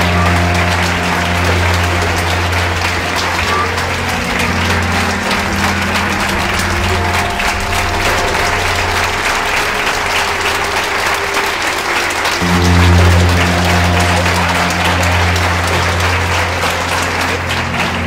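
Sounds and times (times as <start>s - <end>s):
audience applauding: 0.0s - 18.0s
low sustained background music: 0.0s - 18.0s.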